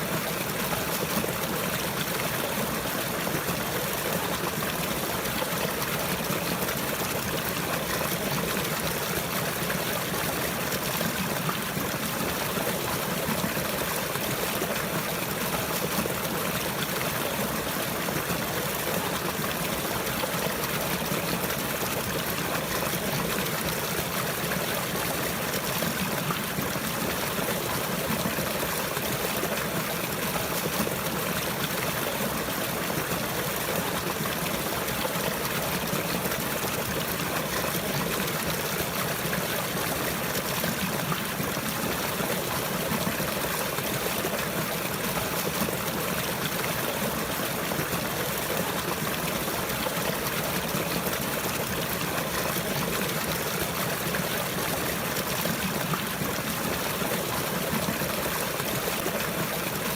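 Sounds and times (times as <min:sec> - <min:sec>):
water flowing and trickling: 0:00.0 - 0:59.9.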